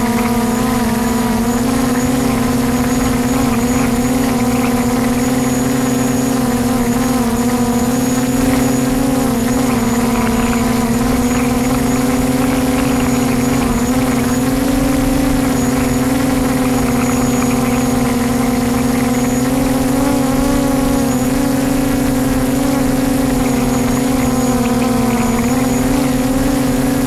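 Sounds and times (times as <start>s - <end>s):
drone propellers humming: 0.0s - 27.0s.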